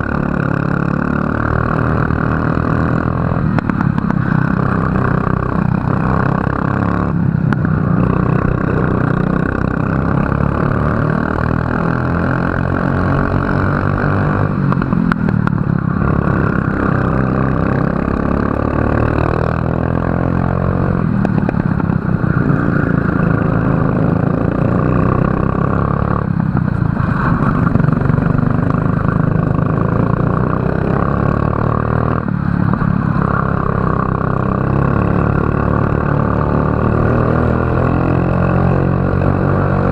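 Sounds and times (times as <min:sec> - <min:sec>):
racing kart engine revving: 0:00.0 - 0:39.9.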